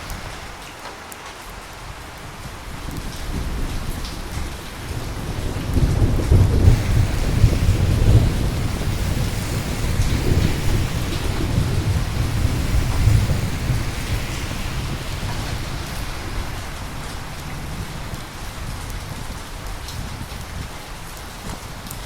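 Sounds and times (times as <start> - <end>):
steady rain: 0.0 - 22.0
low rumble of thunder: 1.9 - 22.0.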